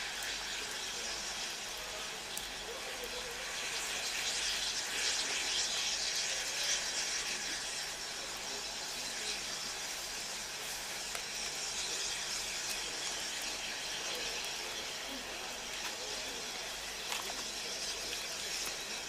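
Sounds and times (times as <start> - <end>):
steam hissing: 0.0 - 19.0.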